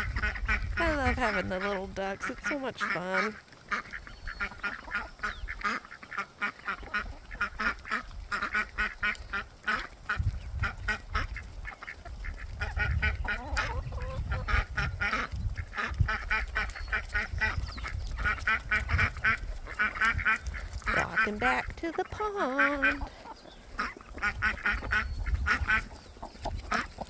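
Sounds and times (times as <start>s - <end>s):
young ducks quacking: 0.0s - 27.0s.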